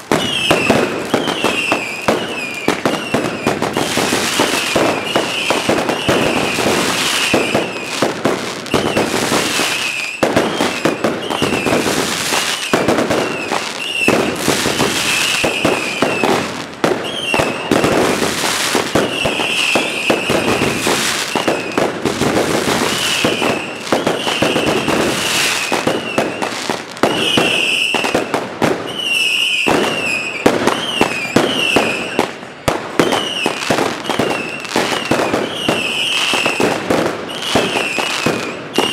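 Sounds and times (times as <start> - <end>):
fireworks bangs and crackling: 0.0 - 38.9
fireworks high whistles: 0.0 - 38.9.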